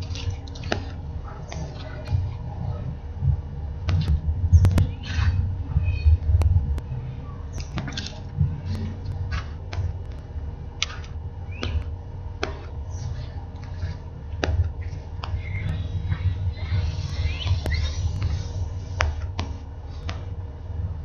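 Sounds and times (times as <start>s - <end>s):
microphone handling rumble: 0.0s - 21.0s.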